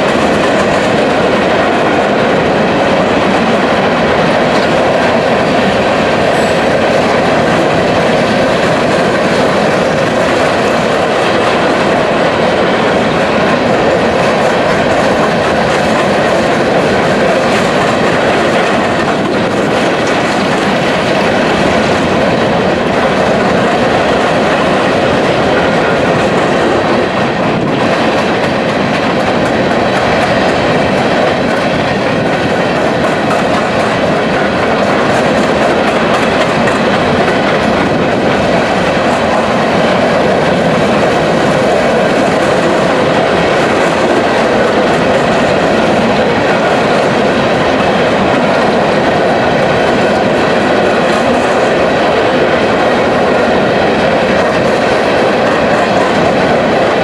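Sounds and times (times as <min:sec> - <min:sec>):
train cars rolling past: 0:00.0 - 0:57.0
wheels clicking over rail joints: 0:00.0 - 0:57.0.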